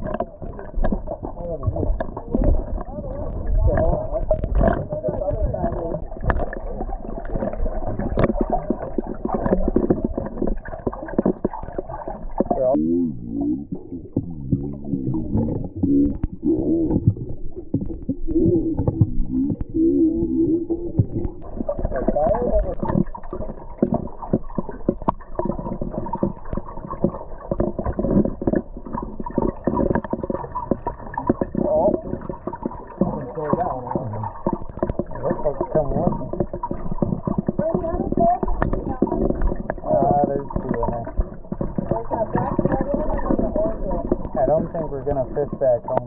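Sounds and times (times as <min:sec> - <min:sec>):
underwater sloshing rumble: 0:00.0 - 0:46.0.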